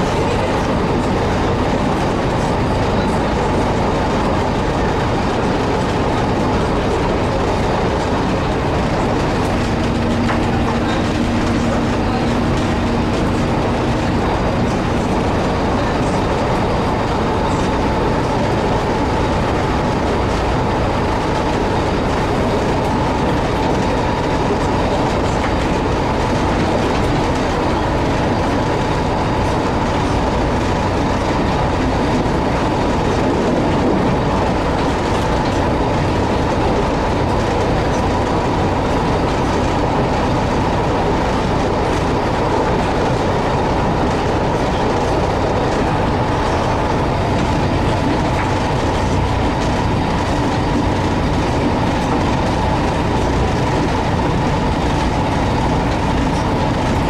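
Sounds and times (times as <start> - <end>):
steady whine: 0.0 - 57.0
train diesel engine: 0.0 - 57.0
wheels on rails: 0.0 - 57.0.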